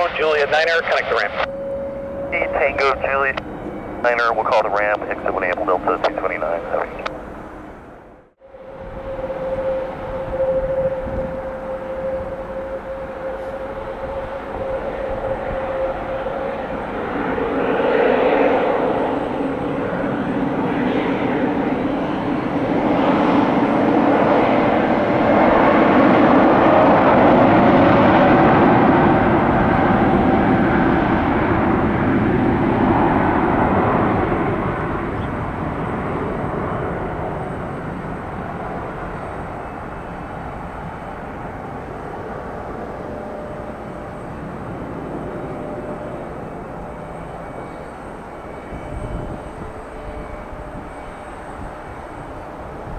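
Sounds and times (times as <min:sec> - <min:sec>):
jet engines roaring at takeoff: 0:00.0 - 0:52.9.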